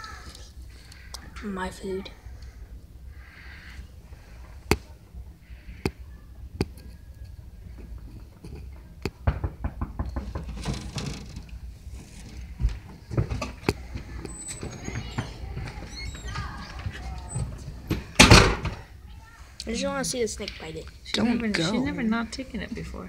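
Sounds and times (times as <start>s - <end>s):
faint room noise: 0.0s - 23.0s.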